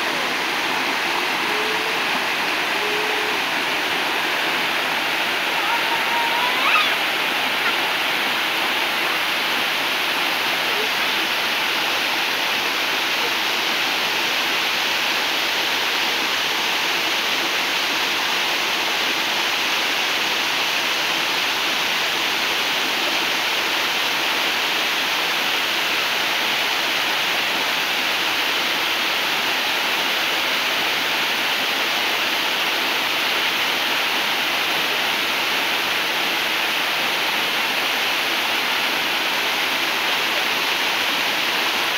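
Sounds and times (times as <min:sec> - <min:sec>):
waterfall rushing over rocks: 0:00.0 - 0:41.9.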